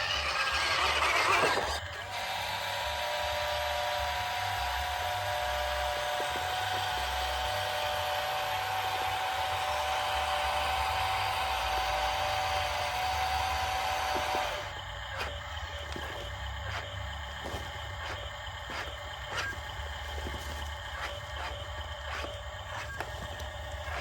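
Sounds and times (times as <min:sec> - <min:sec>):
small electric motor whining: 0:00.0 - 0:24.0.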